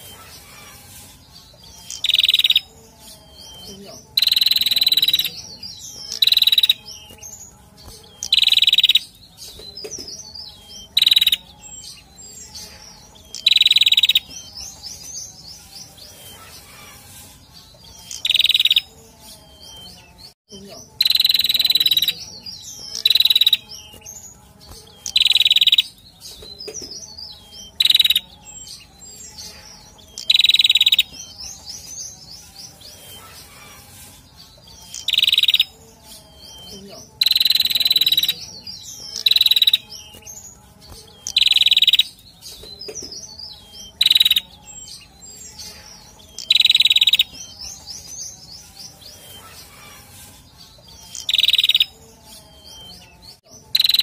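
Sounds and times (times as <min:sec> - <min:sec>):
buzzy bird calls: 0:00.0 - 0:18.9, 0:20.9 - 0:52.0
rapid high bird twittering: 0:00.0 - 0:54.0.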